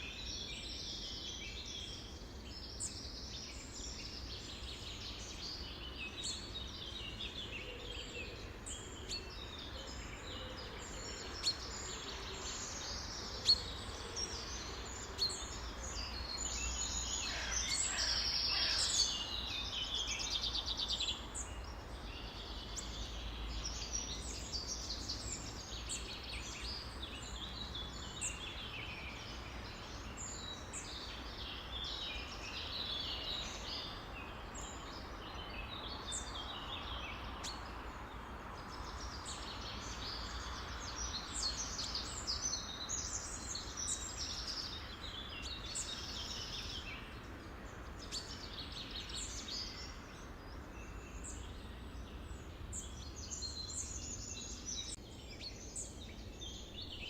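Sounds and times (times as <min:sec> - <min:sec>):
small birds chorus: 0:00.0 - 0:57.0.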